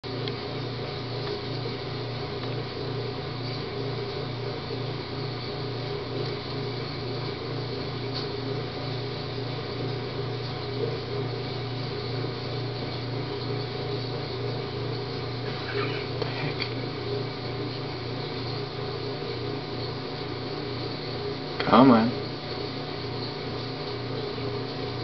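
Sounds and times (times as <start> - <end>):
low mechanical hum with hiss: 0.0 - 25.0.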